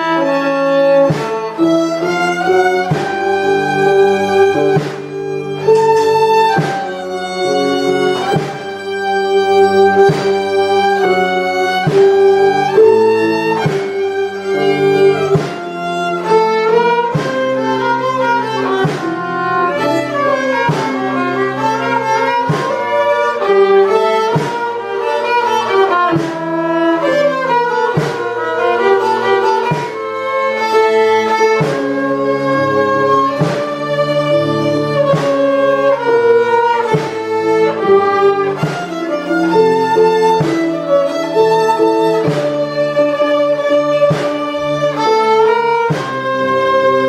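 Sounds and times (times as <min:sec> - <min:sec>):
slow string-like instrumental music: 0:00.0 - 0:47.0.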